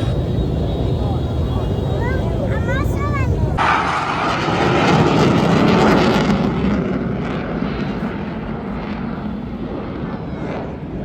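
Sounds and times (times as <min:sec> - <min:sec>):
military aircraft roaring past: 0:00.0 - 0:11.0.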